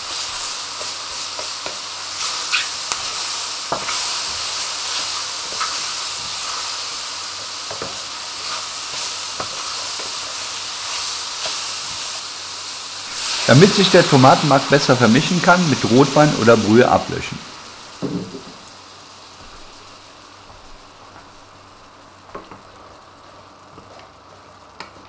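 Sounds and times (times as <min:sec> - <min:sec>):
vegetables sizzling in a frying pan: 0:00.0 - 0:25.0.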